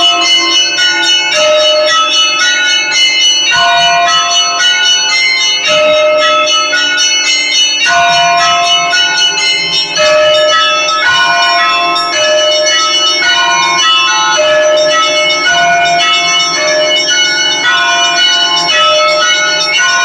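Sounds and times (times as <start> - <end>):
deep bells humming: 0.0 - 20.0
small high church bells: 0.0 - 20.0.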